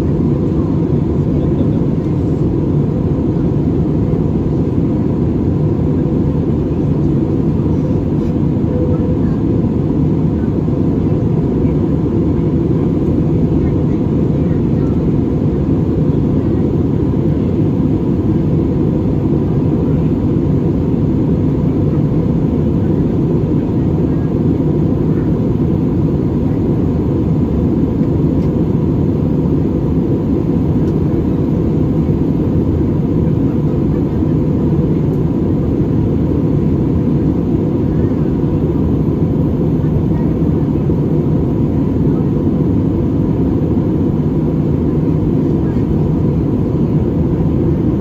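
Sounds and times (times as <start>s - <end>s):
aircraft cabin engine rumble: 0.0s - 48.0s.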